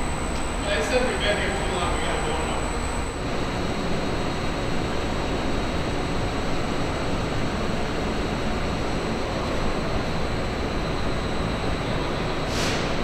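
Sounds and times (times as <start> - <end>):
steady machinery noise: 0.0 - 13.0.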